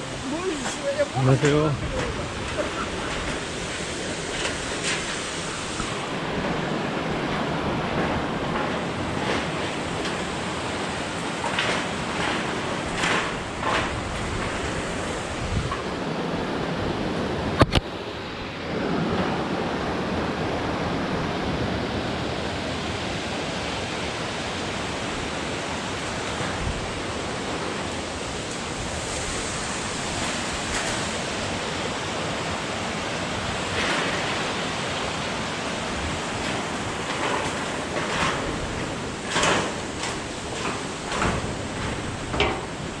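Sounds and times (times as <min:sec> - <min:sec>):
stream water rushing: 0:00.0 - 0:43.0.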